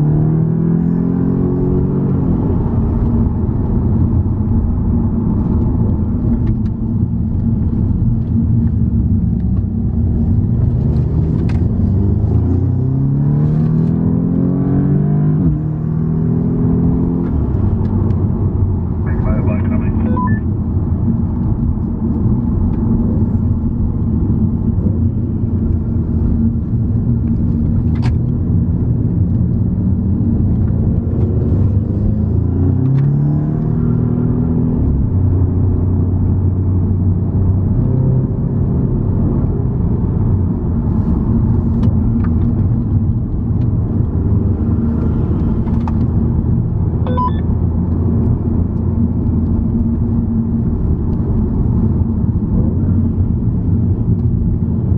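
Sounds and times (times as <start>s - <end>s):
car engine: 0.0s - 54.9s
road noise: 0.0s - 54.9s.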